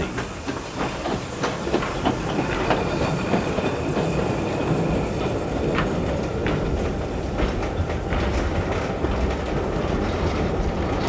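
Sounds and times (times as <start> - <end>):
steam train rumbling past: 0.0 - 11.0
wheels clicking over rail joints: 0.0 - 11.0.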